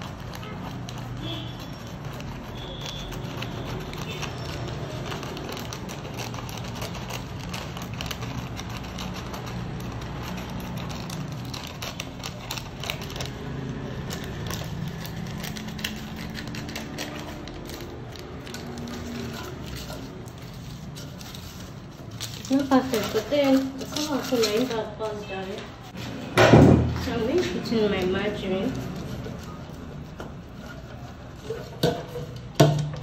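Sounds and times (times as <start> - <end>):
scissors snipping paper: 0.0 - 25.9, 27.2 - 32.6
baking paper crinkling: 0.0 - 26.2, 26.9 - 32.6.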